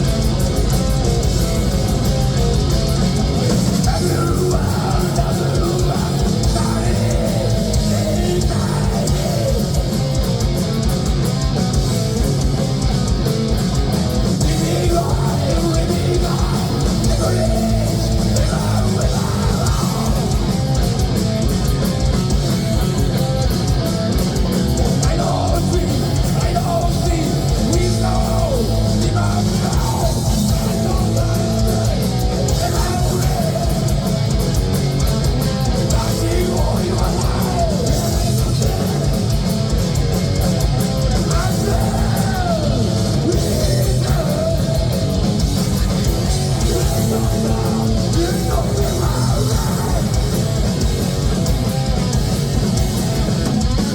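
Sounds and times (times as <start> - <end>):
distorted electric guitars: 0.0 - 53.9
rapid bass drum beats: 0.0 - 53.9.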